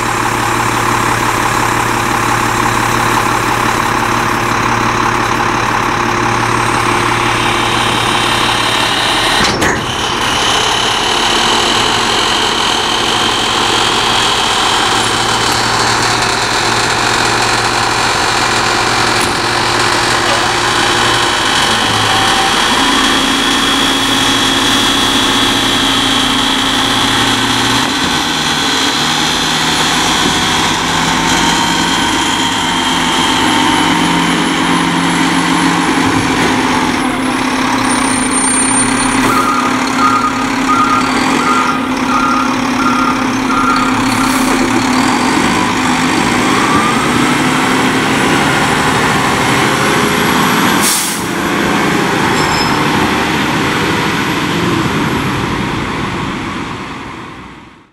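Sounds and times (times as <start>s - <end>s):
garbage truck diesel engine: 0.0s - 57.9s.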